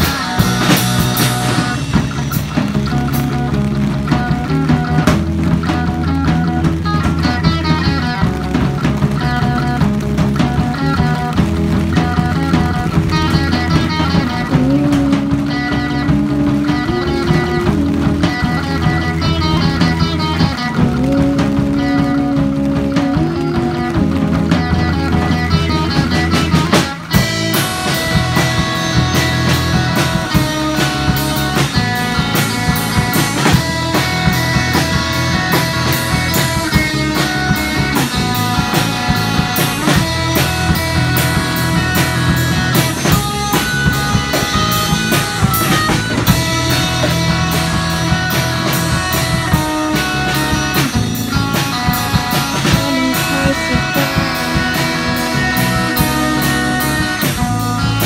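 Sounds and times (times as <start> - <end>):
drum kit beat: 0.0 - 58.0
electric bass: 0.0 - 58.0
electric guitar: 0.0 - 58.0.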